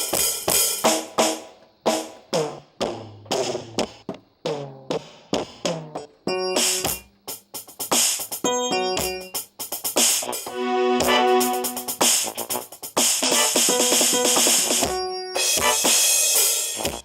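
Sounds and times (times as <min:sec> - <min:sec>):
drum machine hits: 0:00.0 - 0:02.2, 0:05.3 - 0:17.0.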